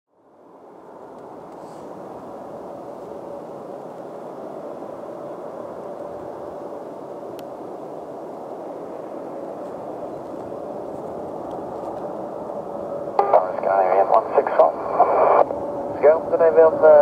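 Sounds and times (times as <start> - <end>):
turboprop plane drone: 0.7 - 17.0.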